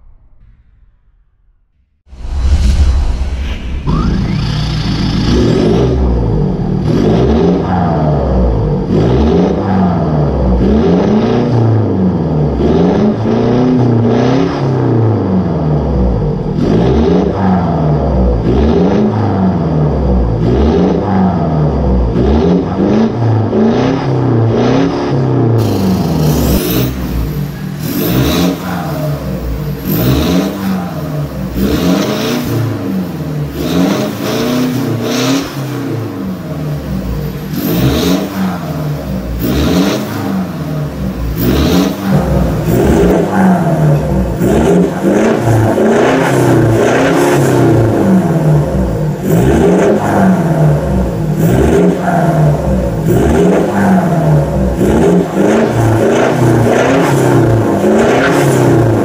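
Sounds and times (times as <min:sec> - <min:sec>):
diesel engine revving: 0:02.1 - 0:59.0.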